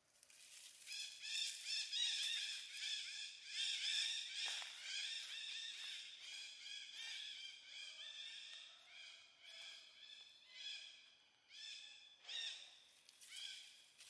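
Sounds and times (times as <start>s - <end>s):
faint high animal calls: 0.8s - 13.9s.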